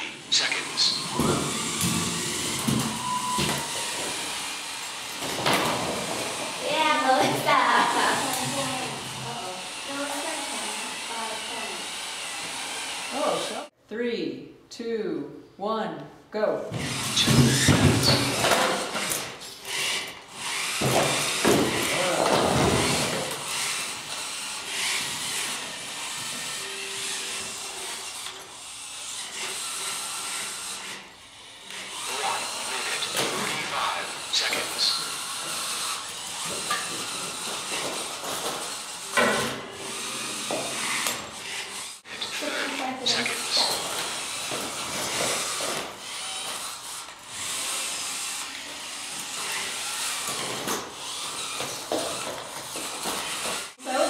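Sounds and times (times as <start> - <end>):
robot motors whirring: 0.0 - 13.7, 16.8 - 54.0.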